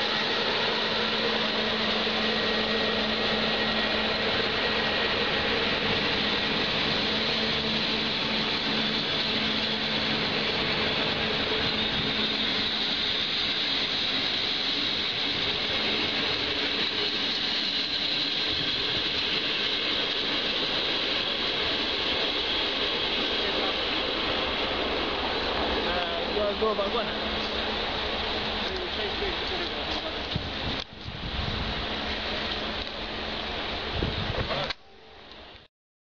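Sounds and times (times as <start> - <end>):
train wheels rolling on rails: 0.0 - 35.6.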